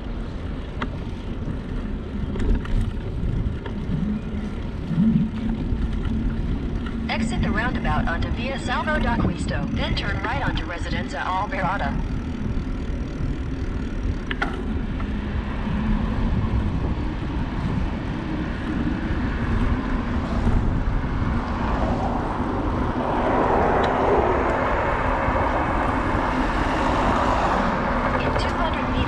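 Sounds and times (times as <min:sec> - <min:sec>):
bicycle tyres rolling on road: 0:00.0 - 0:29.0
wind on microphone: 0:00.0 - 0:29.0.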